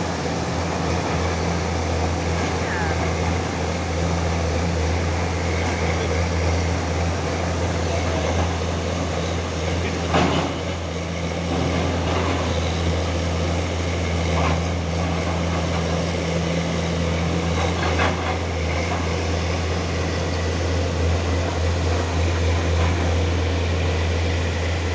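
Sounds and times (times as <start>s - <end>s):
diesel engine low drone: 0.0s - 24.9s.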